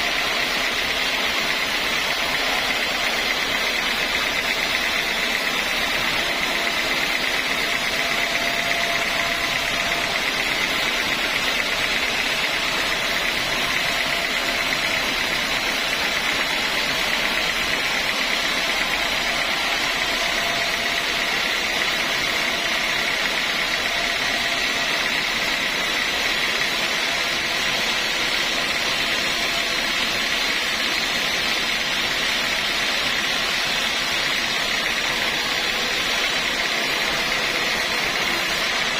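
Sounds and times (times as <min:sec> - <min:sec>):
high machine whine: 0:00.0 - 0:38.9
sawmill machinery drone: 0:00.0 - 0:38.9.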